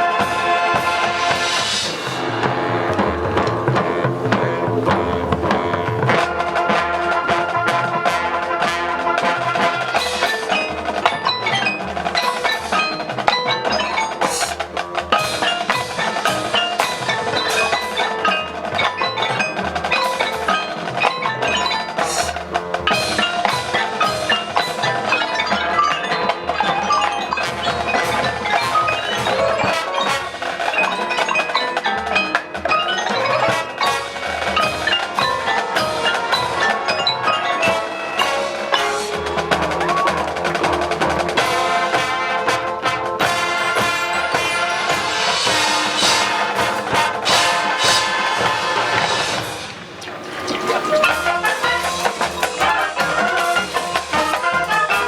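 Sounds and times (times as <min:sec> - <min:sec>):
drums: 0:00.0 - 0:55.0
mallet percussion: 0:00.0 - 0:55.0
marching band playing: 0:00.0 - 0:55.0.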